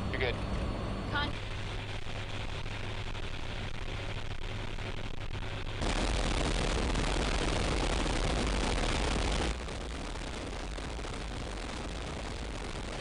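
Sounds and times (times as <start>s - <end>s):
turboprop engines running: 0.0s - 13.0s.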